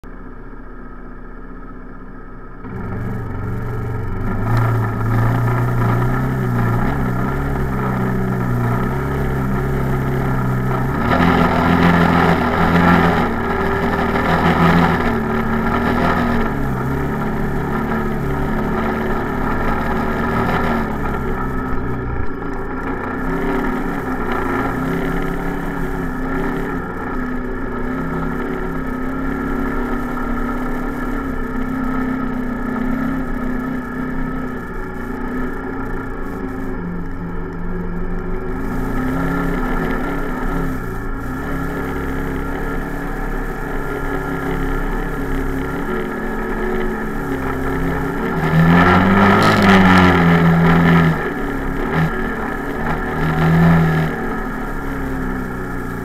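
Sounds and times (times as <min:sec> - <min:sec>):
off-road vehicle engine revving: 0:02.6 - 0:56.0.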